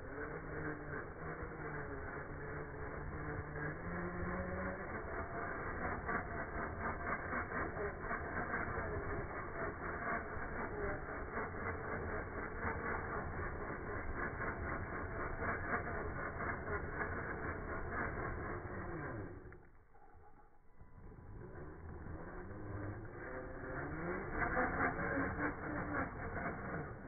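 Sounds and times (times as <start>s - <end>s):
toy car motor rattling: 0.0s - 27.0s.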